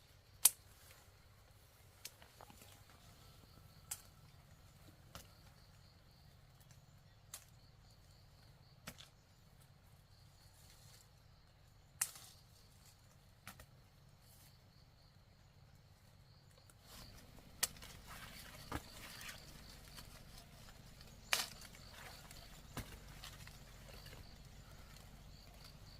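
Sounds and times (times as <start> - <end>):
quiet outdoor background: 0.0 - 25.9.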